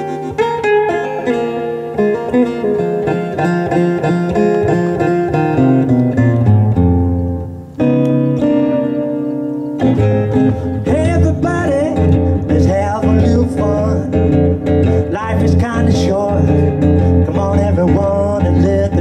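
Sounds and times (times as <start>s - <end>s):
acoustic guitar blues riff: 0.0s - 19.0s.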